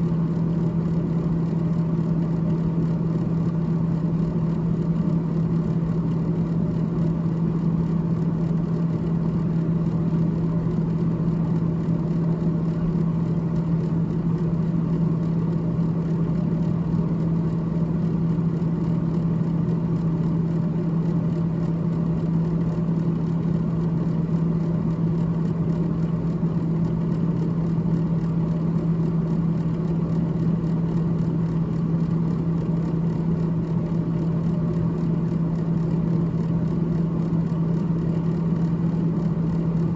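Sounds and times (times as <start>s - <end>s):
freezer fan humming: 0.0s - 39.9s.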